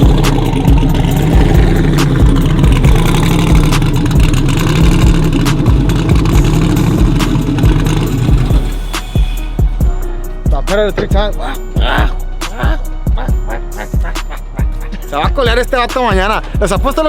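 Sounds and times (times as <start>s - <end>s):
pickup truck engine rumbling: 0.0s - 17.0s.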